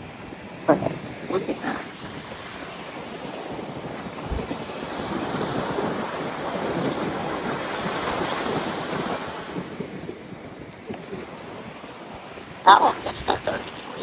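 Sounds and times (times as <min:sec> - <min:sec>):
ocean surf breaking: 0:00.0 - 0:14.0
wind on microphone: 0:00.0 - 0:14.0.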